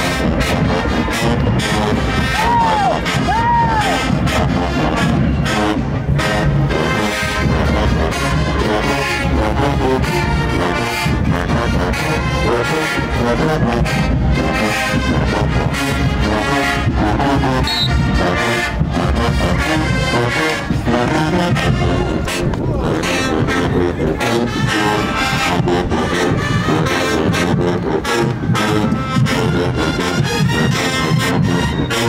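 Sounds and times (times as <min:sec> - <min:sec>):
marching band playing brass: 0:00.0 - 0:32.0.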